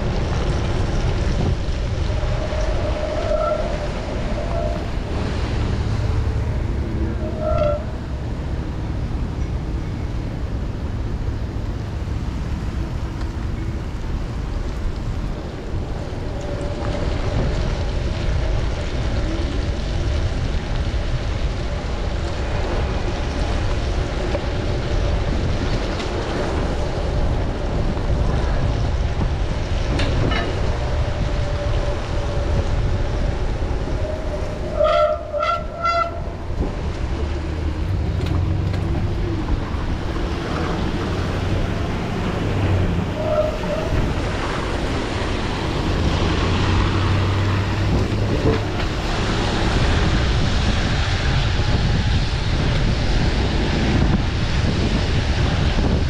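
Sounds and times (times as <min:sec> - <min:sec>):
tyre noise on wet pavement: 0:00.0 - 0:56.0
wind rushing over microphone: 0:00.0 - 0:56.0.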